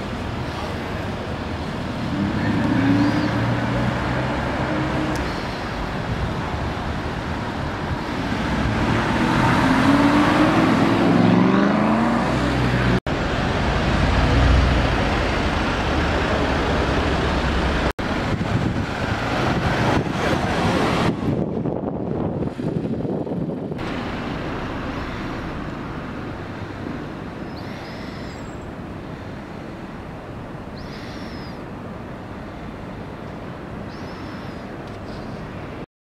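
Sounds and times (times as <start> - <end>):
passing cars: 0.0 - 35.9.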